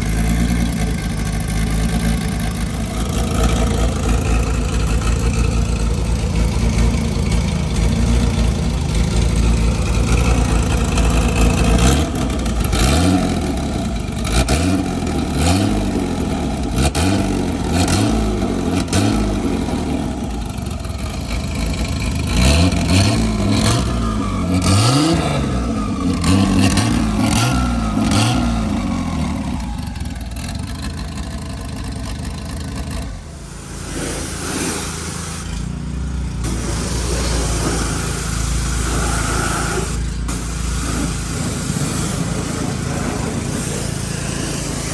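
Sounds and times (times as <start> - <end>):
car engine revving: 0.0 - 44.9
sharp exhaust cracks: 0.0 - 44.9.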